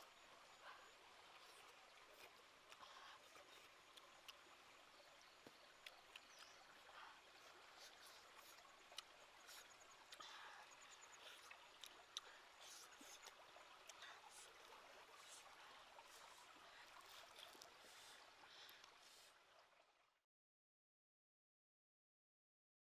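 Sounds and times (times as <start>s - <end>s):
faint running stream water: 0.0s - 20.2s.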